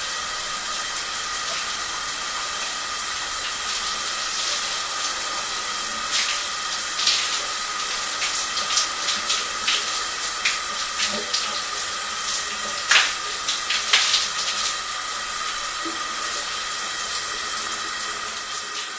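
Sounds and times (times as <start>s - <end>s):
shower spray hissing: 0.0s - 18.9s
water splashes: 3.3s - 18.9s.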